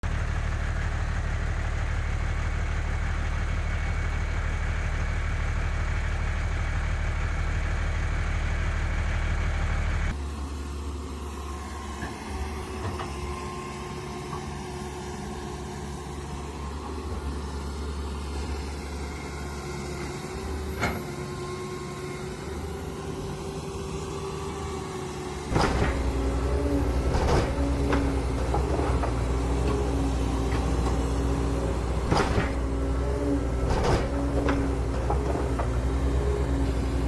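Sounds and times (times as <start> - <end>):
heavy vehicle engine rumbling: 0.0 - 37.0.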